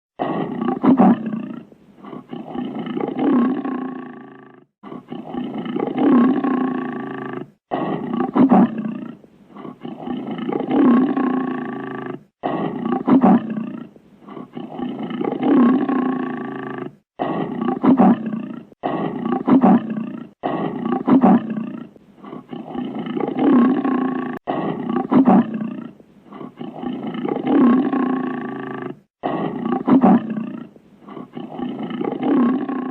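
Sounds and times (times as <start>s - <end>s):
lion growling and roaring: 0.2s - 32.9s
lion grunts: 0.2s - 32.9s.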